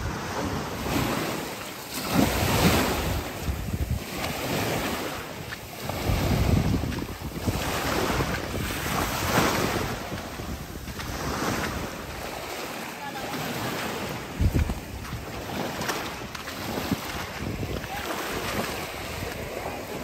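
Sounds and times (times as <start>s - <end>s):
waves washing on shore: 0.0s - 20.0s
wind buffeting microphone: 0.0s - 20.0s.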